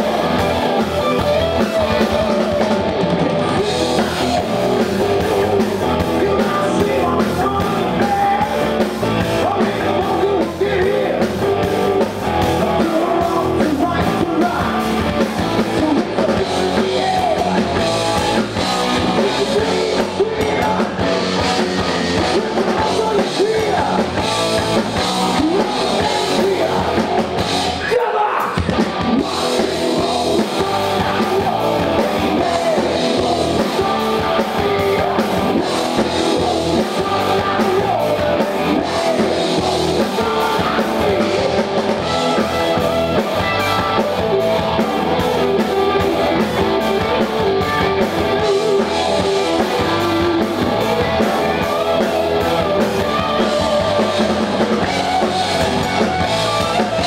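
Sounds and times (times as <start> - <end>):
hard rock band playing: 0.0 - 57.0
man singing: 0.0 - 57.0.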